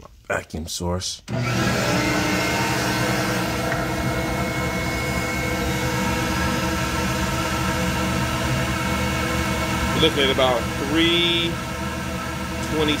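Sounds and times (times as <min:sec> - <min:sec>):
steady motor hum: 0:01.3 - 0:13.0.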